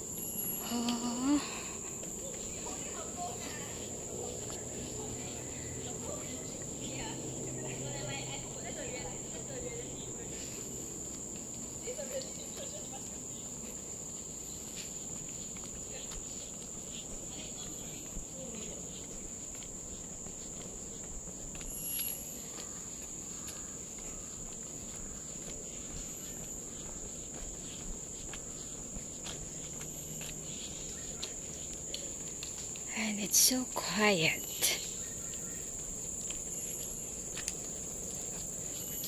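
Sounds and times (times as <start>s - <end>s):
footsteps on pavement: 0.0s - 39.0s
forest insects chorus: 0.0s - 39.0s.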